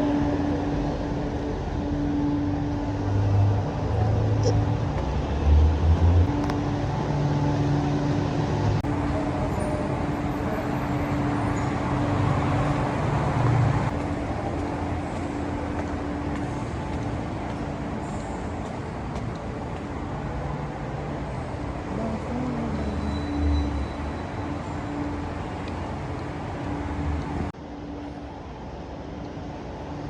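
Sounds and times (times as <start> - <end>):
vehicle running rumble: 0.0 - 27.6.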